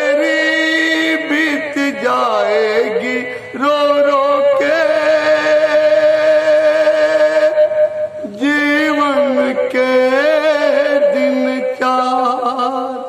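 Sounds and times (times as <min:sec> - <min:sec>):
man singing into microphone: 0:00.0 - 0:13.0
steady backing drone: 0:00.0 - 0:13.0.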